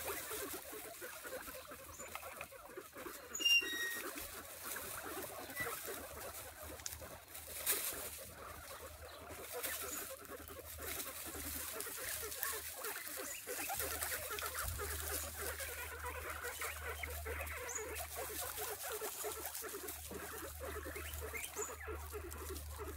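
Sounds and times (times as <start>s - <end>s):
guinea pigs squeaking: 0.0s - 22.9s.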